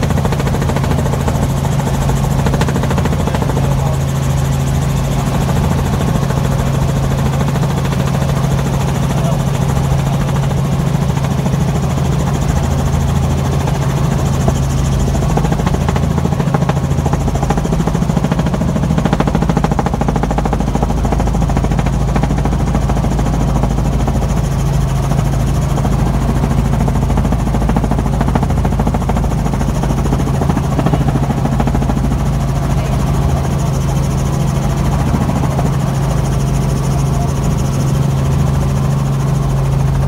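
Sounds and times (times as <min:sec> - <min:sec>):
helicopter rotor and engine drone: 0:00.0 - 0:40.0.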